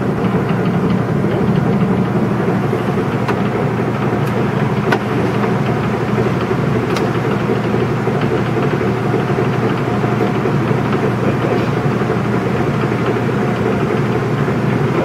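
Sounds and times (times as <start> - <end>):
lathe mechanical hum: 0.0 - 15.0.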